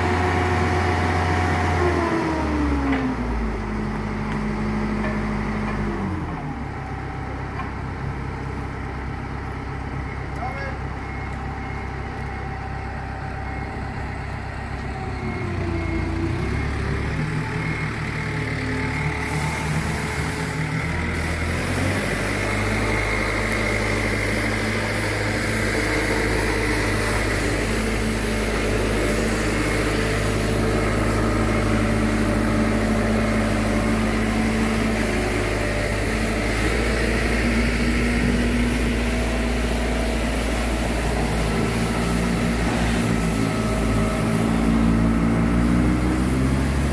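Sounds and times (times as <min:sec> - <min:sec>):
engine running: 0:00.0 - 0:46.9.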